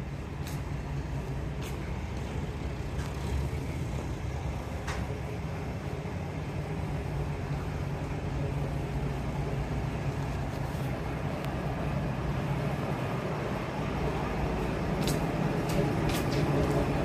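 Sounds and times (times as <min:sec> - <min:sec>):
diesel railcar engine idling: 0:00.0 - 0:17.0.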